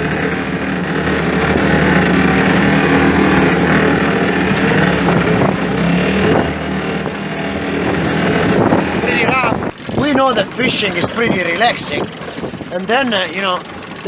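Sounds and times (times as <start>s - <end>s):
motorboat engine running: 0.0s - 14.0s
water noise: 0.0s - 14.0s
wind: 0.0s - 14.0s.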